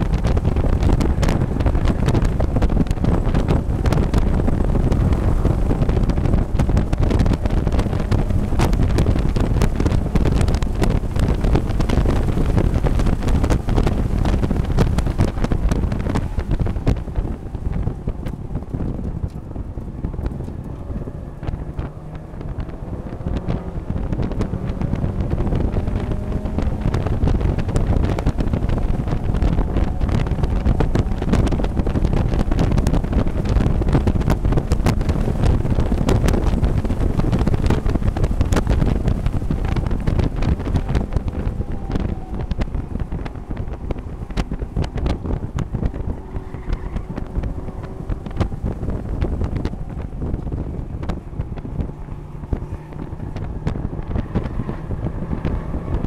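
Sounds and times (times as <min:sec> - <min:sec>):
race car engine running hard: 0:00.0 - 0:56.0
wind and road noise: 0:00.0 - 0:56.0.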